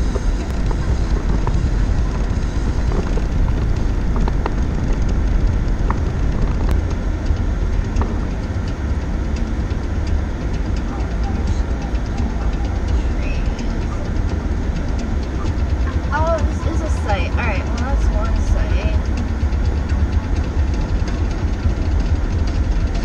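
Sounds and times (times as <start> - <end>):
tyres rumbling on dirt road: 0.0 - 23.0.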